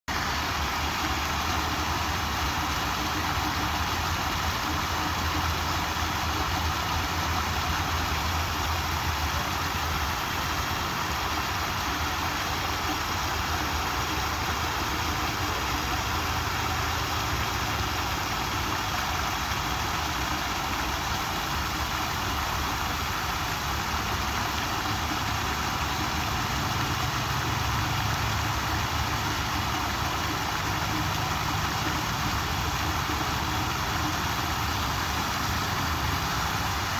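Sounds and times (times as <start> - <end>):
water fountain splashing: 0.1 - 36.9.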